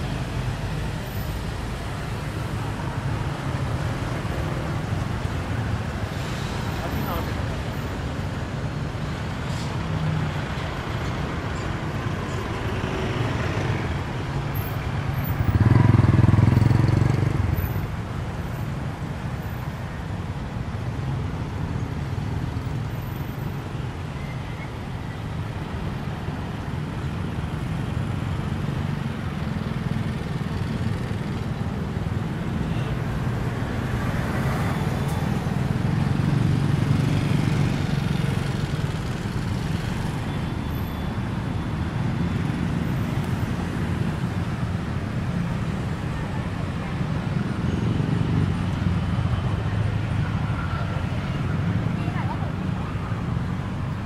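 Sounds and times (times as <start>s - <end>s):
cars and motorbikes driving past: 0.0s - 54.0s.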